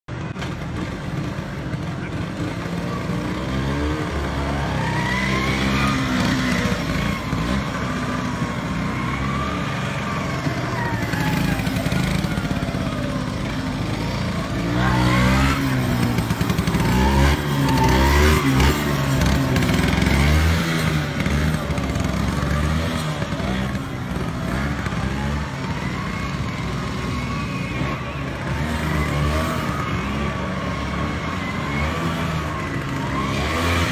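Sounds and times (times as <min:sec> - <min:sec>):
scooter engine revving: 0:00.1 - 0:33.9.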